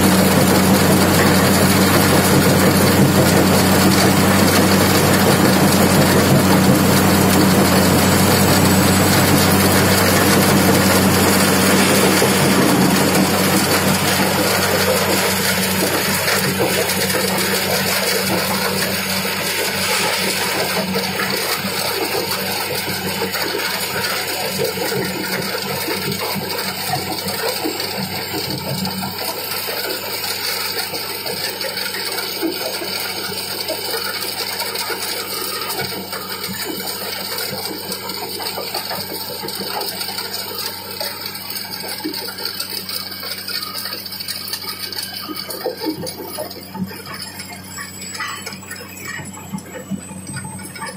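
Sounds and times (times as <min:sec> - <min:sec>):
diesel engines humming: 0:00.0 - 0:50.9
gravel rattling through steel hopper: 0:00.0 - 0:50.9.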